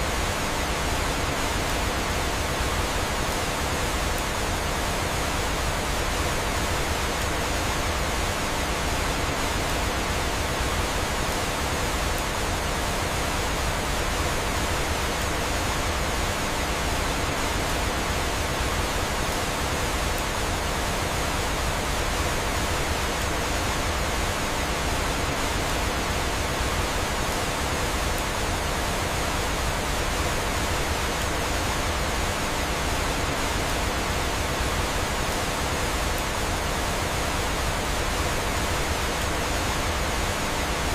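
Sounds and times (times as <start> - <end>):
rushing falling water: 0.0 - 40.9.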